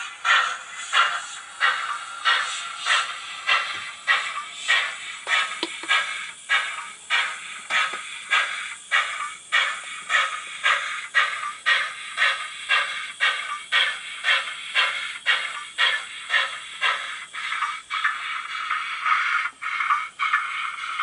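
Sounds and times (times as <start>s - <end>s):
steam locomotive exhaust chuffs: 0.0s - 21.0s.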